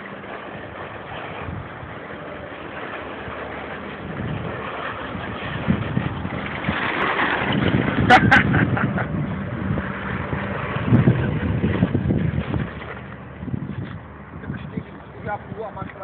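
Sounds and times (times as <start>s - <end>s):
tyres scrabbling on gravel: 0.0s - 16.0s.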